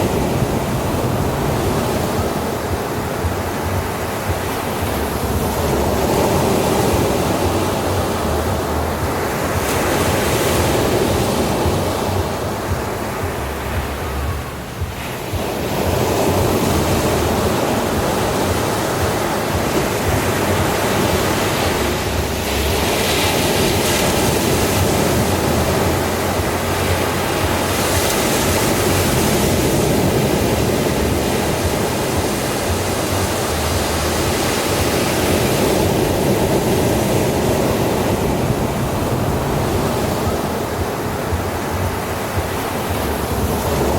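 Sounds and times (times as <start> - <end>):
ocean waves breaking on beach: 0.0 - 43.9.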